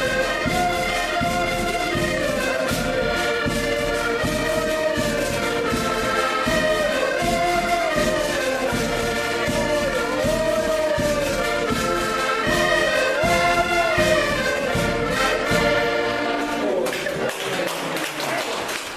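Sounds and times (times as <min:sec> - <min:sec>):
bass drum beat: 0:00.0 - 0:16.0
accordions playing dance tune: 0:00.0 - 0:17.3.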